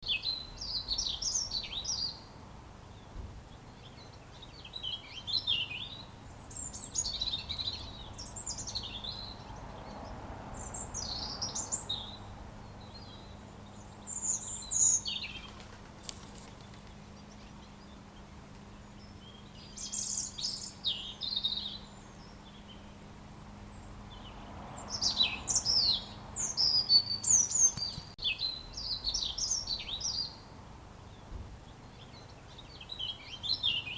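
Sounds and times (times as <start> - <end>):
robin singing: 0.0 - 33.9.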